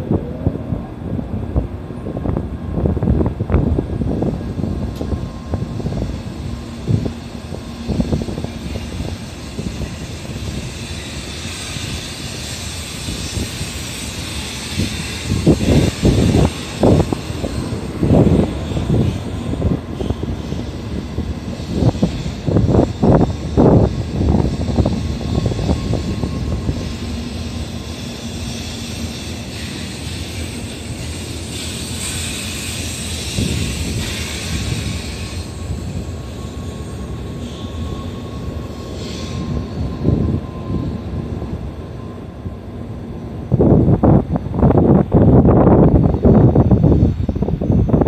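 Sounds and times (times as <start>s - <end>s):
low train rumbles: 0.0s - 48.0s
train rushing past: 0.0s - 48.0s.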